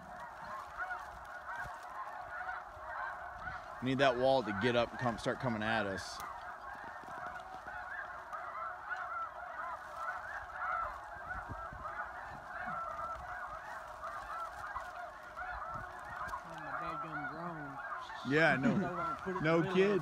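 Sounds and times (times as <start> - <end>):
snow geese honking: 0.0 - 20.0.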